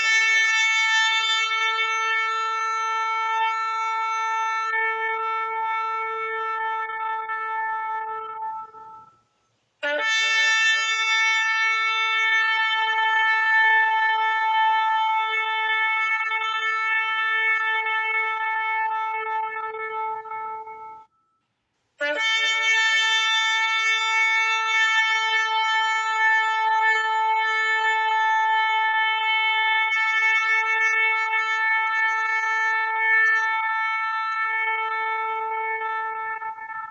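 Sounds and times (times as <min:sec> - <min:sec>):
ram's horn blasts: 0:00.0 - 0:21.4, 0:22.0 - 0:36.9.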